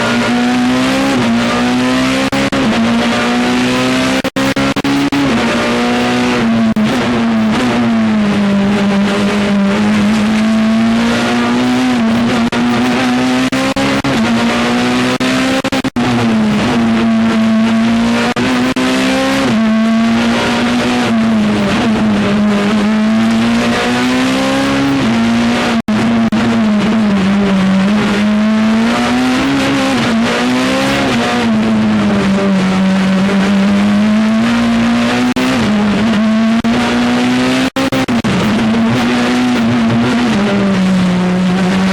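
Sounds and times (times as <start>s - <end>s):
rally car engine revving: 0.0s - 41.9s.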